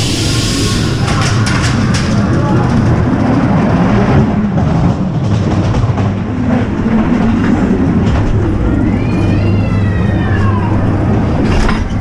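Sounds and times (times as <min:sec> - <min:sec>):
ride car wheels rumbling on track: 0:00.0 - 0:12.0.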